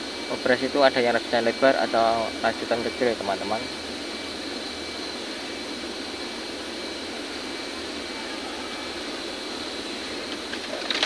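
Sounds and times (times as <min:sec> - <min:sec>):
mechanical whirring with high whine: 0:00.0 - 0:11.0.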